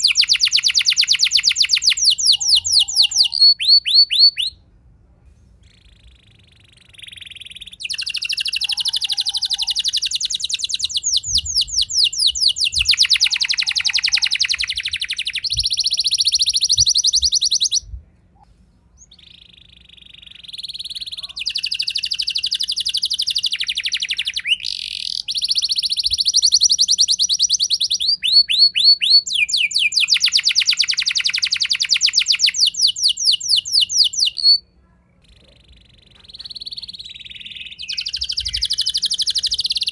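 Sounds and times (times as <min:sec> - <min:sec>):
canary singing trills: 0:00.0 - 0:04.6, 0:05.6 - 0:17.9, 0:19.0 - 0:39.9.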